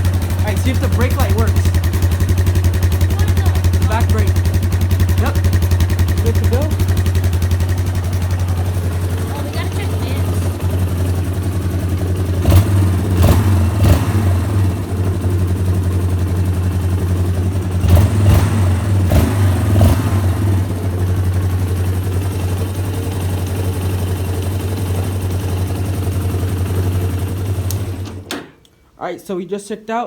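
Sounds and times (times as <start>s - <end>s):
quad engine idling: 0.0s - 28.3s.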